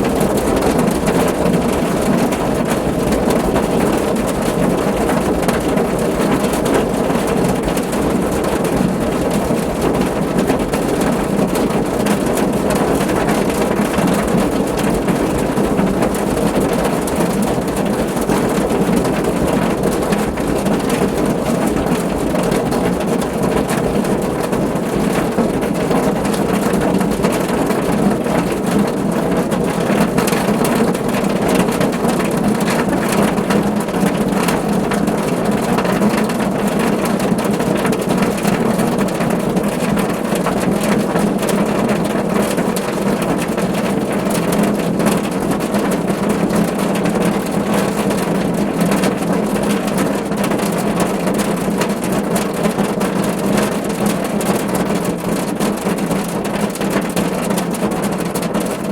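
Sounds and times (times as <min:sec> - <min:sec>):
heavy rain on a car roof: 0:00.0 - 0:58.9.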